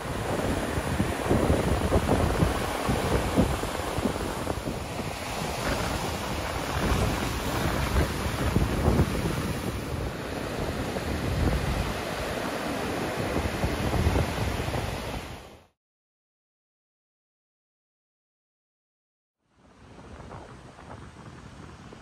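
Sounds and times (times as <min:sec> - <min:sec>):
wind buffeting microphone: 0:00.0 - 0:15.6, 0:19.7 - 0:22.0
ocean surf breaking on shore: 0:00.0 - 0:15.7, 0:19.6 - 0:22.0.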